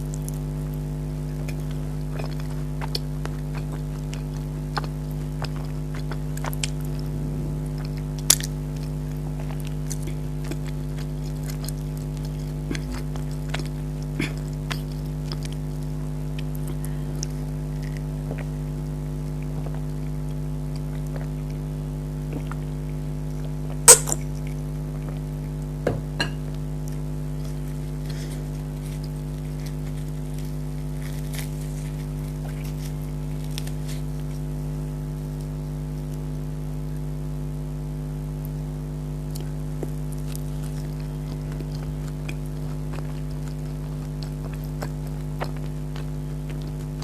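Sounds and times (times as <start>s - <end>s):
chewing: 0.0s - 25.7s, 26.5s - 36.3s, 39.3s - 47.0s
steady low hum: 0.0s - 47.0s.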